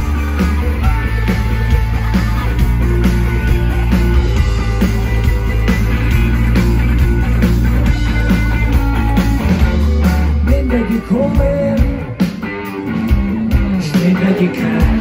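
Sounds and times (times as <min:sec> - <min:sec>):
heavy bass: 0:00.0 - 0:15.0
live rock band playing: 0:00.0 - 0:15.0.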